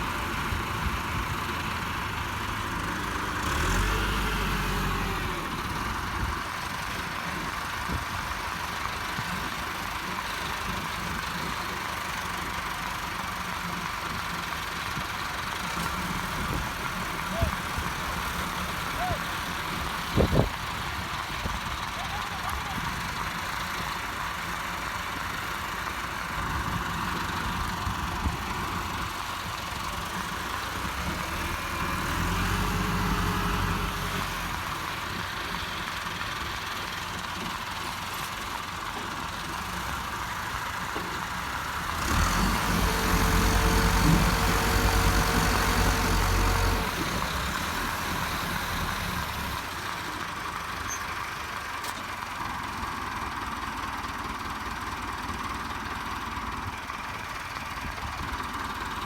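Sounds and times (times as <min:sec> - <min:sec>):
diesel tractor engines running: 0:00.0 - 0:59.0.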